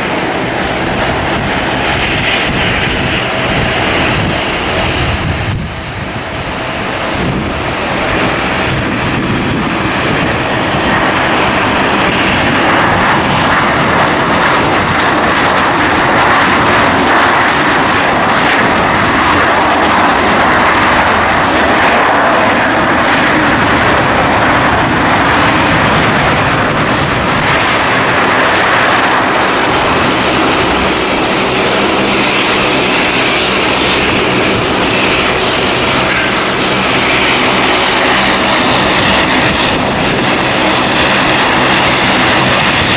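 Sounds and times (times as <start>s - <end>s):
airliner engines roaring: 0.0s - 42.9s.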